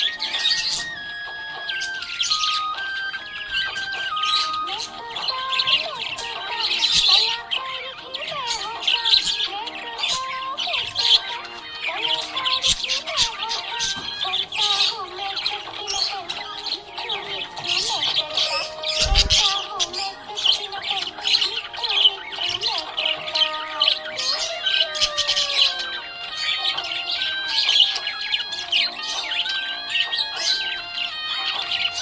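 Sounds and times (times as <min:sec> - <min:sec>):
budgerigars chirping: 0:00.0 - 0:32.0.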